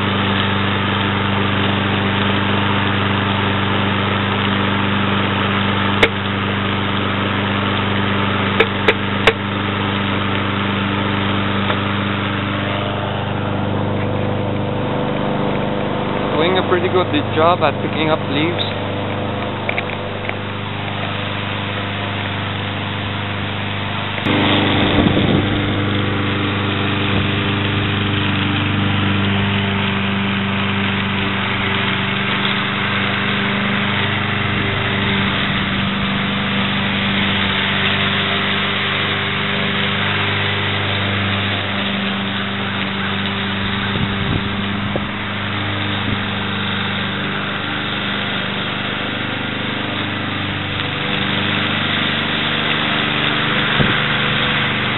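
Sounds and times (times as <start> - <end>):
lawn mower engine running: 0.0 - 54.9.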